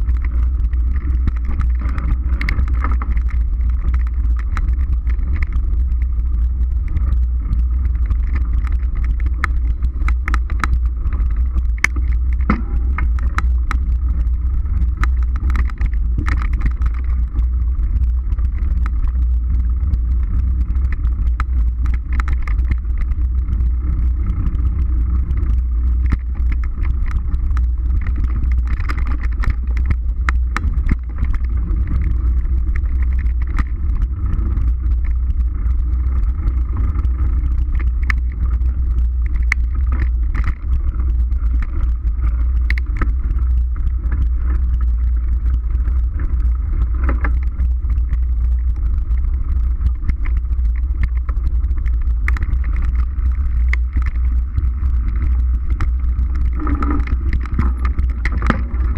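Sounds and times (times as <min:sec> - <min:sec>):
bike clicks and rattles: 0:00.0 - 0:58.9
bike tyres rolling rumble: 0:00.0 - 0:58.9
wind on microphone: 0:00.0 - 0:58.9.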